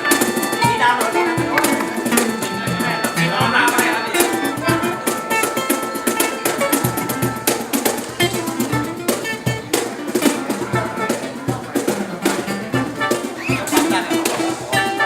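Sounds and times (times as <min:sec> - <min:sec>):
drums and percussion beat: 0:00.0 - 0:15.0
plucked string instrument: 0:00.0 - 0:15.0.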